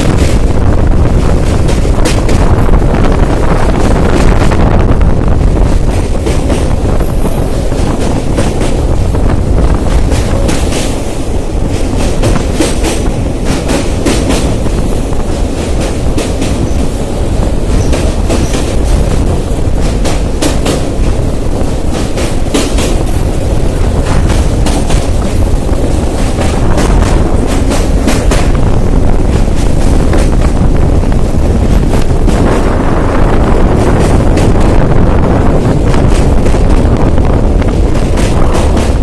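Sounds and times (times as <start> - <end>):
train low rumble: 0.0 - 39.0.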